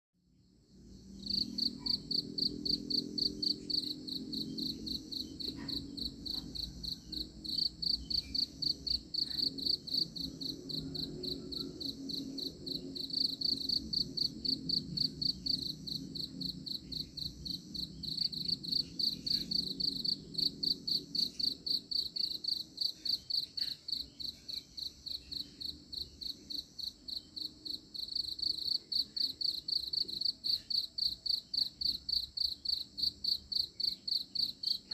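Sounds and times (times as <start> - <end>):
cricket chirping: 0.4 - 34.9.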